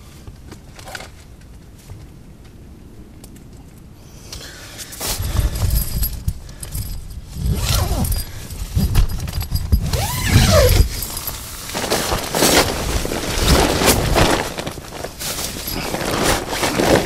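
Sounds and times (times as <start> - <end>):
tent fabric and leaves rustling: 0.0 - 17.0.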